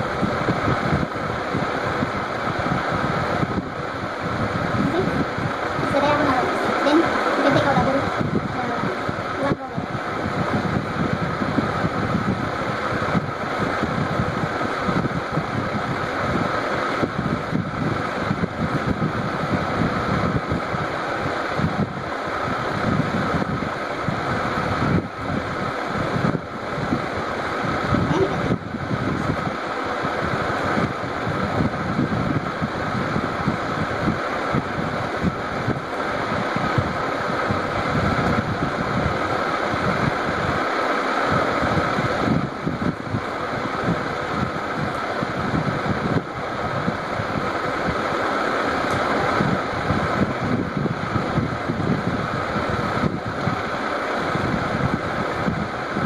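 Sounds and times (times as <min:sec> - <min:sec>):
steady mechanical hum: 0:00.0 - 0:56.0
wind buffeting microphone: 0:00.0 - 0:56.0.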